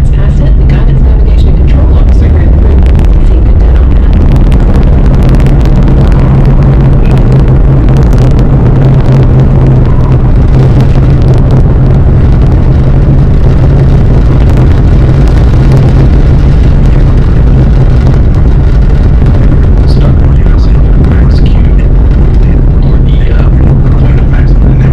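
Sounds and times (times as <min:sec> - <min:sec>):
rocket engine deep rumble: 0:00.0 - 0:24.9.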